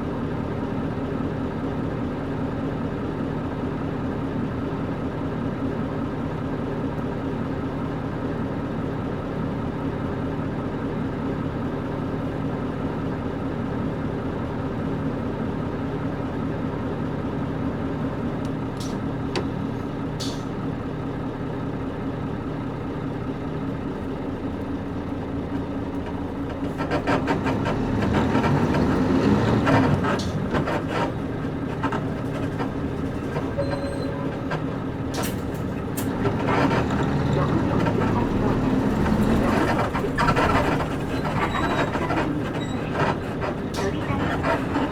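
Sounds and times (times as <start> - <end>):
bus body rattling and creaking: 0.0 - 44.9
bus diesel engine running: 0.0 - 44.9.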